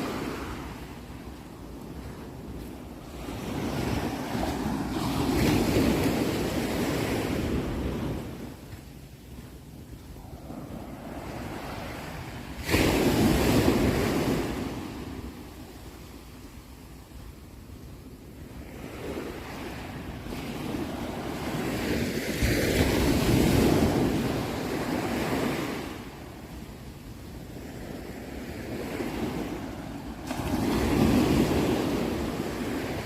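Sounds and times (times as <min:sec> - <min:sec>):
sea waves breaking on shore: 0:00.0 - 0:16.2, 0:18.6 - 0:26.7, 0:27.3 - 0:33.0.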